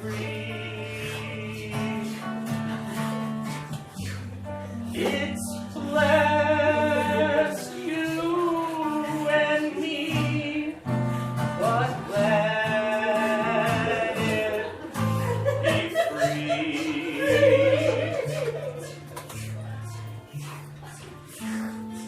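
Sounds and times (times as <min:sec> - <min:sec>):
singer holding wordless notes: 0:00.0 - 0:03.2, 0:04.5 - 0:22.0.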